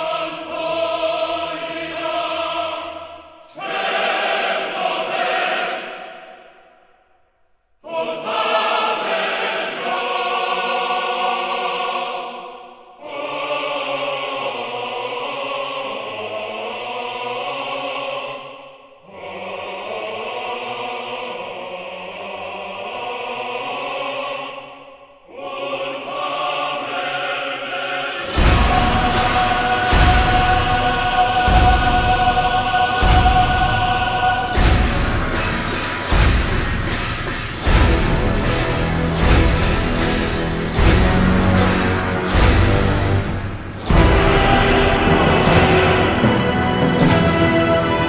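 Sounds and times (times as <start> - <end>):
choir voices holding chords: 0.0 - 6.7, 7.8 - 48.0.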